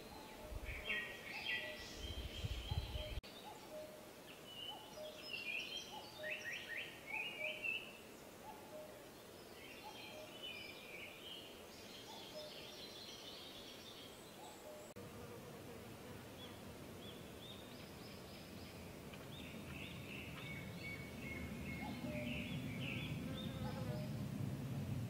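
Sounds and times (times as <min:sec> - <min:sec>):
small birds chirping: 0:00.0 - 0:15.0, 0:16.4 - 0:24.3.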